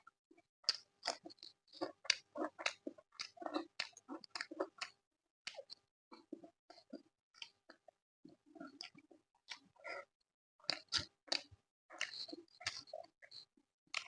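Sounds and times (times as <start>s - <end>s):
close-miked chewing: 0.6s - 14.0s.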